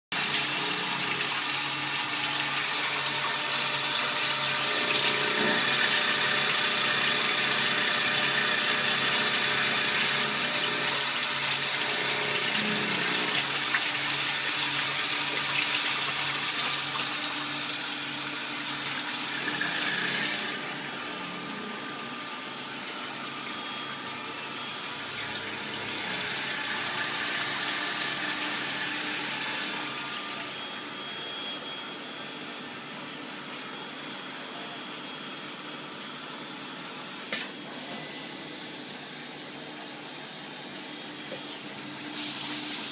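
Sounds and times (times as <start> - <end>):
coolant hissing rush: 0.1 - 30.4, 38.0 - 42.9
lathe mechanical whir: 0.2 - 42.9.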